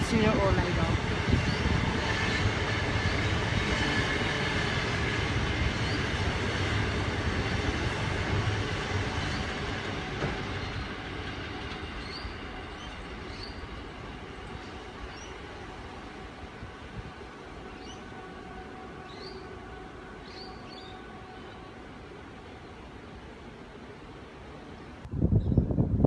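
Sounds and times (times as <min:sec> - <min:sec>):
freight train wagons rumbling: 0:00.0 - 0:25.1.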